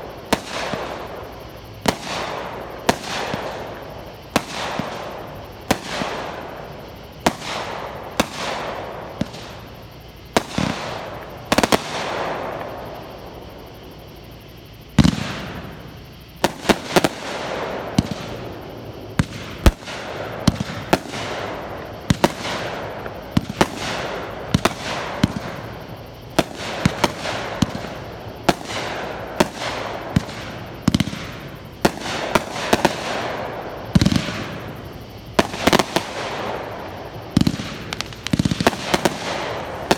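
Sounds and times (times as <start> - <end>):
fireworks bangs: 0.0 - 6.6, 7.2 - 9.7, 10.3 - 13.2, 15.0 - 39.9
fireworks crackle: 0.0 - 13.8, 15.0 - 39.9.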